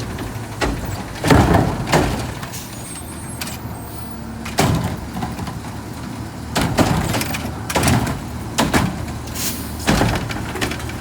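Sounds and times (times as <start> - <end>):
garbage truck bangs: 0.0 - 11.0.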